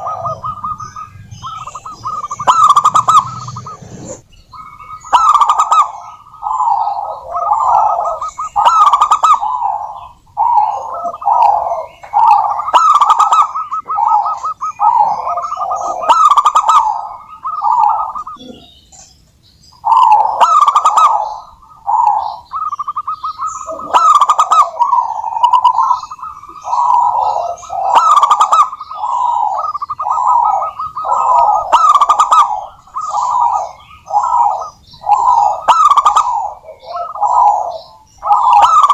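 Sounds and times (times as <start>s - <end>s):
dove cooing: 0.0s - 19.0s, 19.8s - 38.9s.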